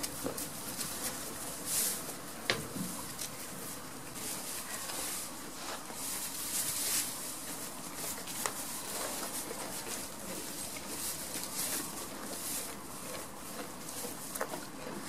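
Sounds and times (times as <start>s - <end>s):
straw and hay rustling: 0.0s - 15.0s.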